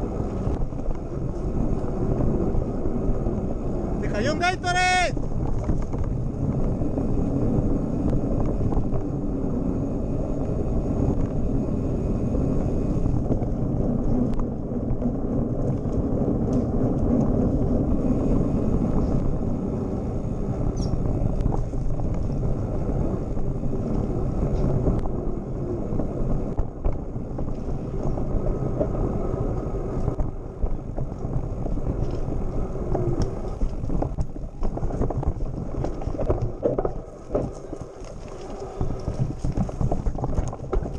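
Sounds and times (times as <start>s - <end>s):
bike rattling over rocks: 0.0s - 40.9s
bike tyres rumbling on dirt: 0.0s - 40.9s
wind buffeting microphone: 0.0s - 40.9s.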